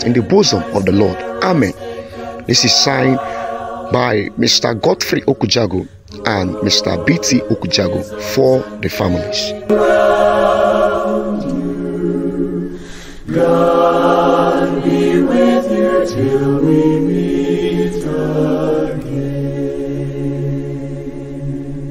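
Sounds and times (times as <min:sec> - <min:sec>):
choir singing held chords: 0:00.0 - 0:21.9.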